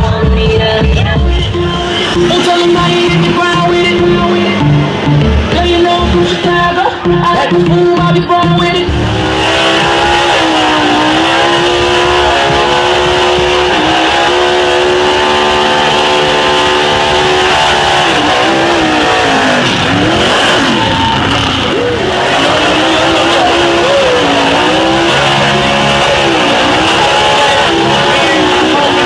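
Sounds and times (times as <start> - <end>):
truck engine at high revs: 0.0 - 29.0.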